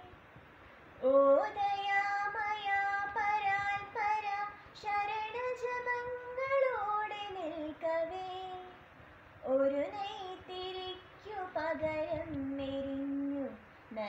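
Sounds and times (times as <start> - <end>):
girl singing devotional song: 0.0 - 14.0.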